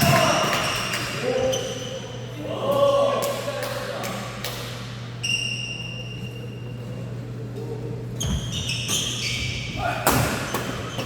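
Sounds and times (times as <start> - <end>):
steady electrical hum: 0.0 - 11.0
voices in a large hall: 0.0 - 11.0.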